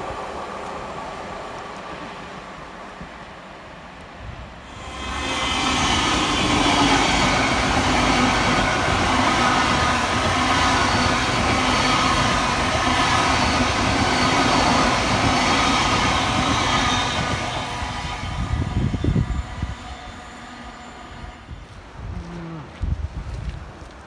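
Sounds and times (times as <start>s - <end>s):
train wheels rushing on rail: 0.0s - 21.9s.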